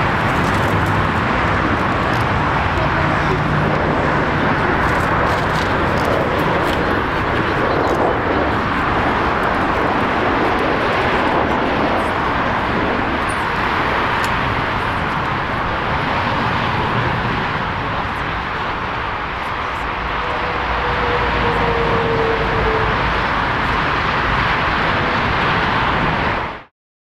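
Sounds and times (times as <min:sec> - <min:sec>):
jet engines rushing: 0:00.0 - 0:26.7.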